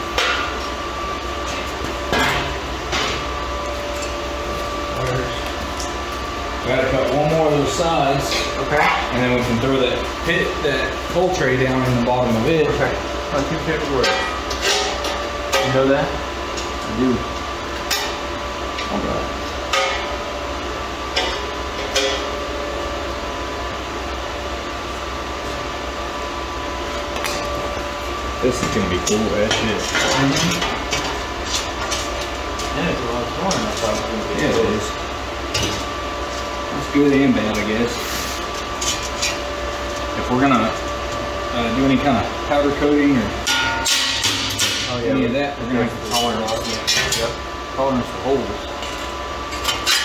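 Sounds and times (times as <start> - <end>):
steady shop hum: 0.0 - 50.0.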